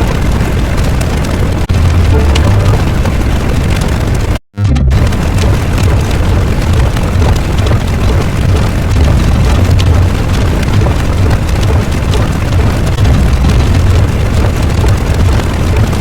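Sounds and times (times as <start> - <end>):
loud noise with low rumble: 0.0 - 16.0.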